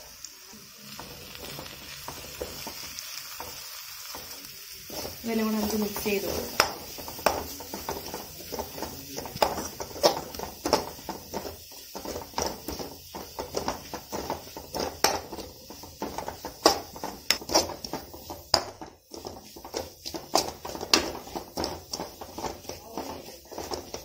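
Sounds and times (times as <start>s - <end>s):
metal spoon scraping a pan: 0.8s - 24.0s.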